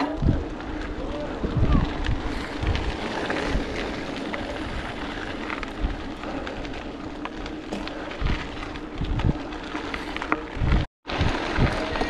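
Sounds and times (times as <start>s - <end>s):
bike tyres on gravel: 0.0s - 12.0s.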